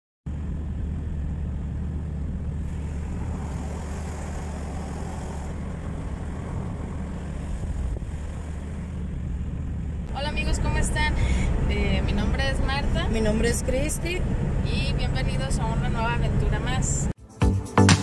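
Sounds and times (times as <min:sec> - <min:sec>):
car driving on wet road: 0:00.3 - 0:16.9.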